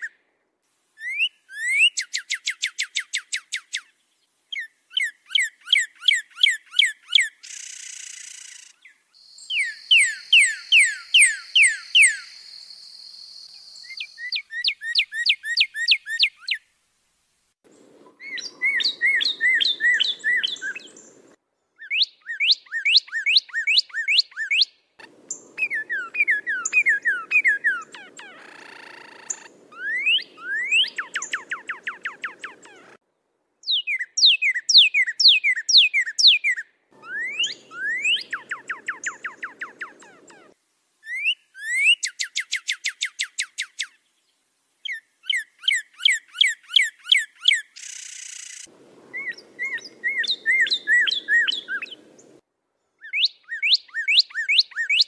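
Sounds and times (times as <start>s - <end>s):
songbird whistling: 1.0s - 3.9s, 4.5s - 16.6s, 17.7s - 33.0s, 33.6s - 43.9s, 44.9s - 52.4s, 53.0s - 55.0s.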